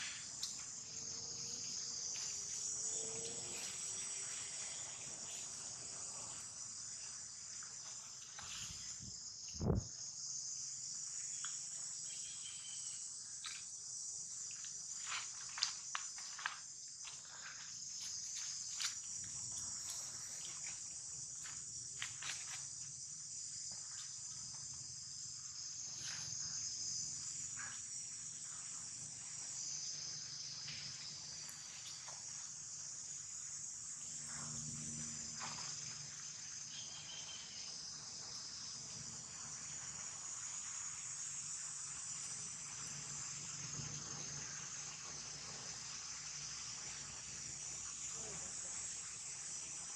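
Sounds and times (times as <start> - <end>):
insect chorus: 0.0 - 49.9.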